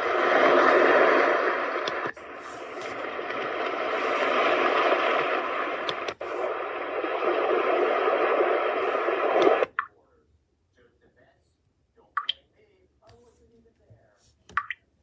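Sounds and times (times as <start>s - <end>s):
white noise from small speaker: 0.0s - 15.0s.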